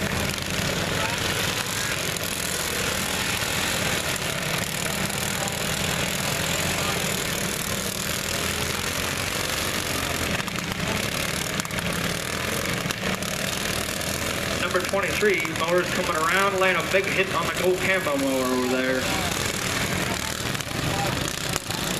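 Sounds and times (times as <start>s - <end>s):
lawn mower engines droning: 0.0s - 21.9s.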